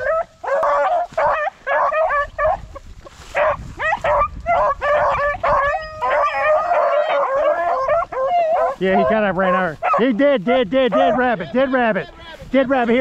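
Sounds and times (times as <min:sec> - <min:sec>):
pack of dogs yelping: 0:00.0 - 0:13.0.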